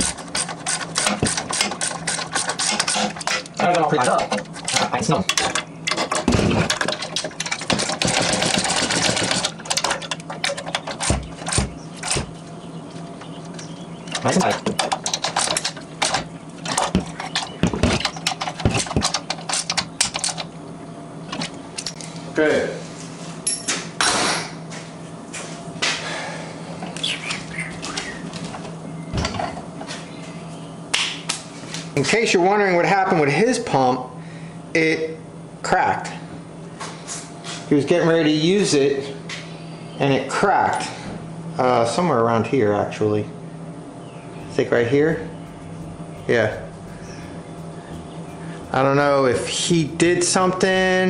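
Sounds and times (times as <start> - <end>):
steady low hum: 0.0 - 32.0, 41.1 - 51.0.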